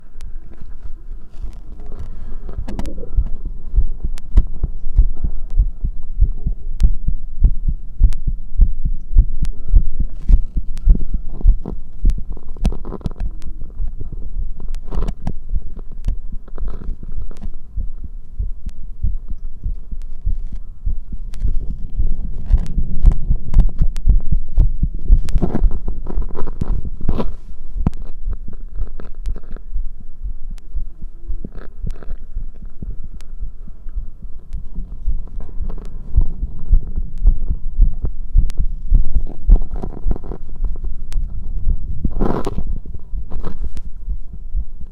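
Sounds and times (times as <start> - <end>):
heartbeat thumps: 0.2 - 44.9.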